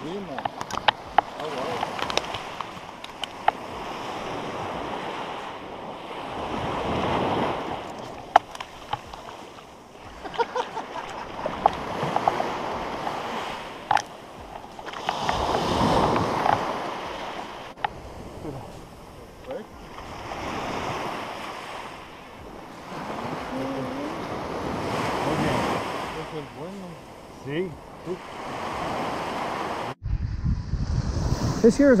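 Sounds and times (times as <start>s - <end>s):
surf washing up beach: 0.0s - 30.0s, 30.8s - 32.0s.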